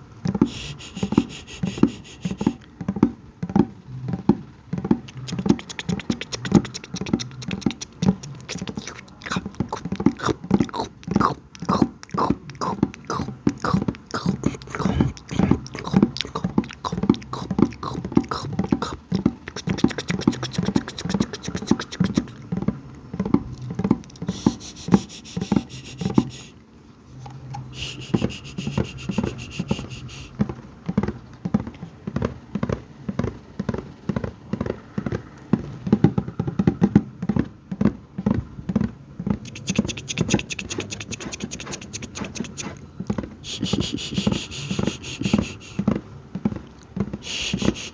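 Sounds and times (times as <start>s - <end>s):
mouth clicks and taps: 0.2s - 26.6s, 27.2s - 37.8s, 38.7s - 47.9s.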